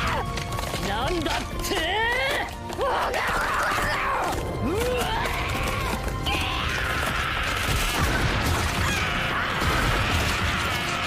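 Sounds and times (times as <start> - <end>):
dramatic music: 0.0 - 11.0.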